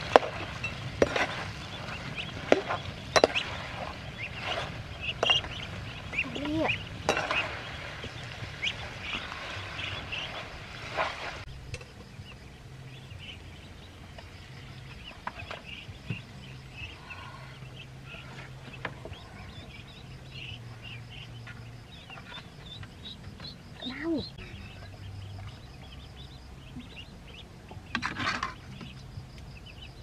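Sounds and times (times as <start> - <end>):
ducklings peeping: 0.0 - 30.0.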